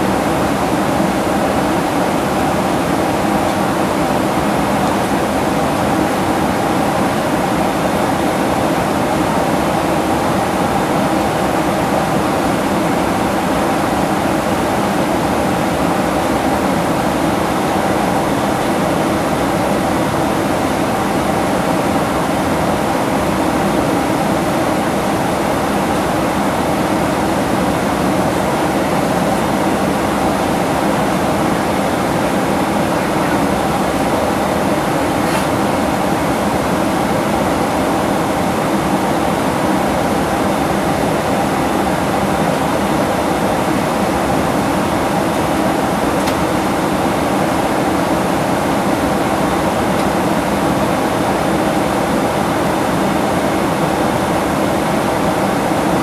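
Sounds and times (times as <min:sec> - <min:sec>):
jet cabin engine and airflow drone: 0:00.0 - 0:56.0.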